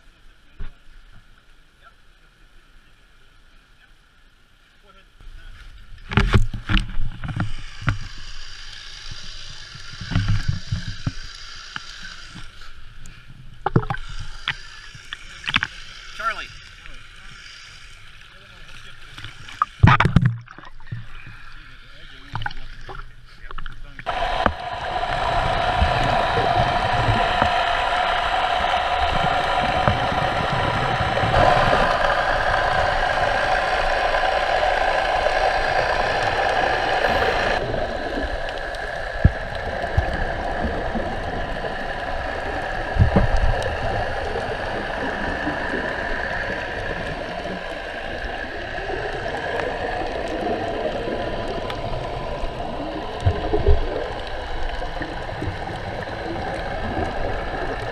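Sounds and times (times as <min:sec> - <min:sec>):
underwater mechanical hum: 0:00.0 - 0:57.9.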